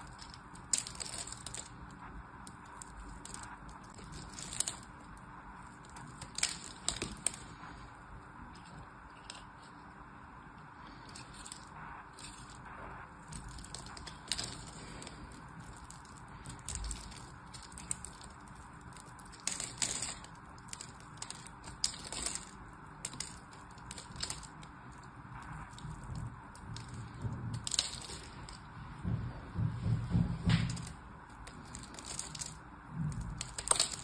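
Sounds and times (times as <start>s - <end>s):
knife carving soap crackles: 0.0s - 9.9s, 10.7s - 28.7s, 30.8s - 34.0s.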